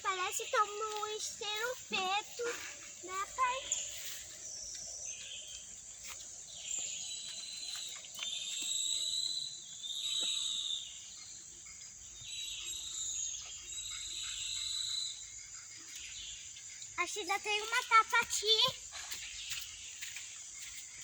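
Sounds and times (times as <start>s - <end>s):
buzzy insect calls: 0.0s - 21.0s
insects chirring: 0.0s - 21.0s.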